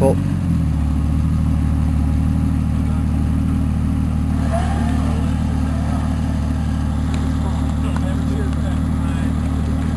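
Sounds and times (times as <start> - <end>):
engine running at low revs: 0.0 - 9.9.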